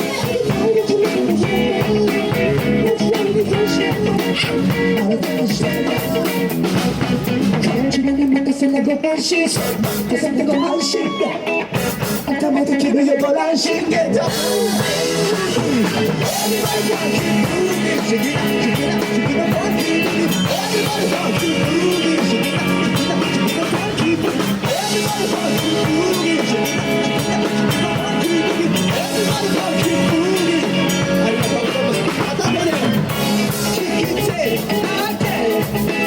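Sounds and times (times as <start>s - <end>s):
live rock band playing: 0.0s - 8.2s, 9.2s - 36.0s.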